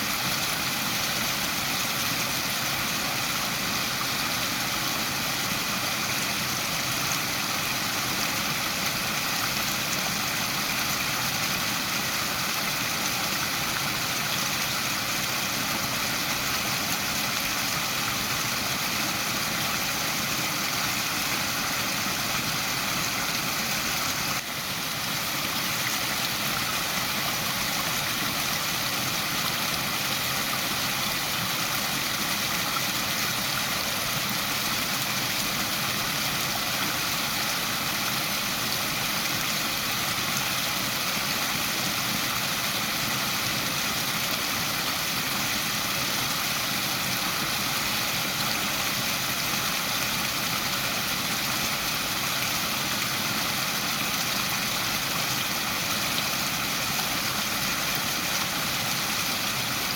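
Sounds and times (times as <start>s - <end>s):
waterfall pouring and rushing: 0.0s - 59.9s.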